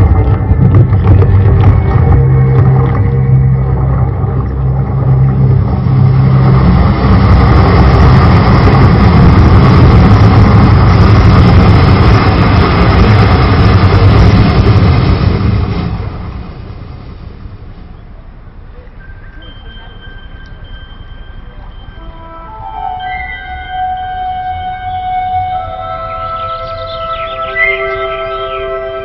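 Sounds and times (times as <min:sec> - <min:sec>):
deep rumble over loudspeakers: 0:00.0 - 0:29.0
rushing engine-like noise: 0:00.0 - 0:29.0.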